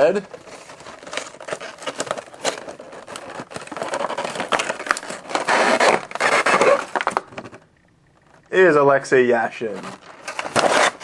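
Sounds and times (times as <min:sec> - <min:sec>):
packaging crinkling and rustling: 0:00.0 - 0:07.6, 0:09.3 - 0:11.0
clicks and scrapes of handling: 0:00.3 - 0:08.5, 0:09.6 - 0:11.0.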